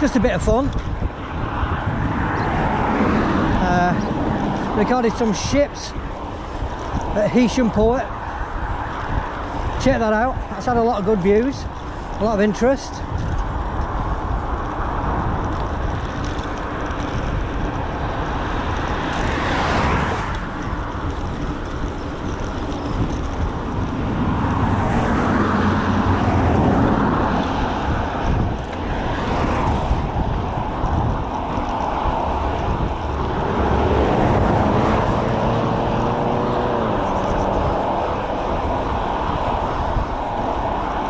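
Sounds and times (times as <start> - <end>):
low traffic rumble: 0.0 - 41.0
vehicles passing: 0.0 - 41.0.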